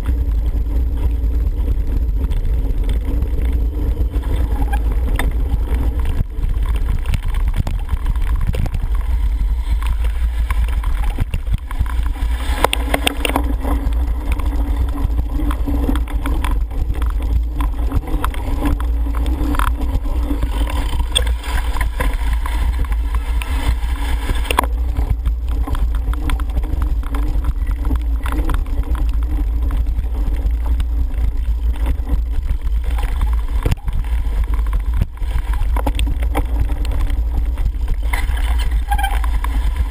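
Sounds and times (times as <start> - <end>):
bike rattles and knocks: 0.0 - 39.9
bike rolling over grass: 0.0 - 39.9
wind on microphone: 0.0 - 39.9.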